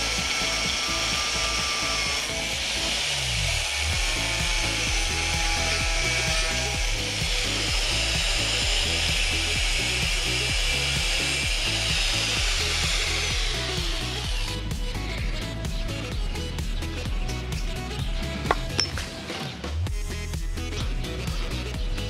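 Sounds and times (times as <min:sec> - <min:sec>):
angle grinder cutting steel: 0:00.0 - 0:19.4
background music with steady beat: 0:00.0 - 0:22.0.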